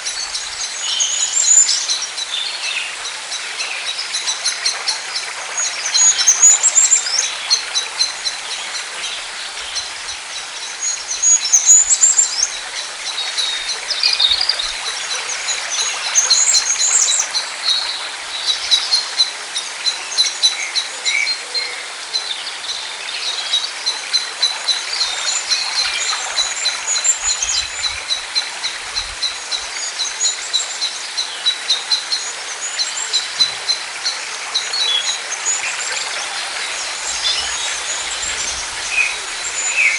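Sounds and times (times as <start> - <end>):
birds chirping and trilling: 0.0 - 39.9
outdoor ambience hiss: 0.0 - 39.9.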